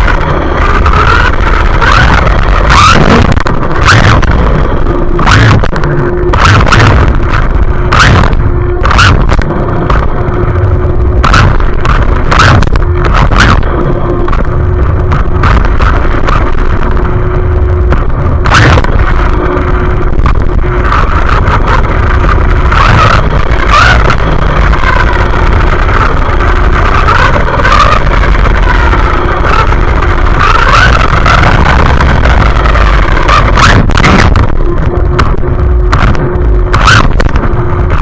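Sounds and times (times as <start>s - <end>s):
loud steady rumble: 0.0s - 38.0s
radio-controlled car motor whine: 0.0s - 38.0s.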